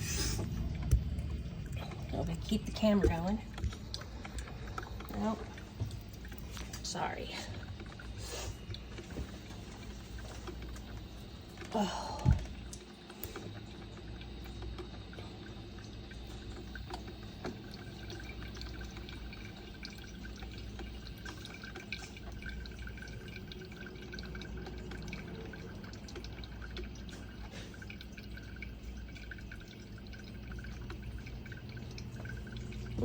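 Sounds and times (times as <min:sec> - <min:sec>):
water dripping into carafe: 0:00.3 - 0:33.0.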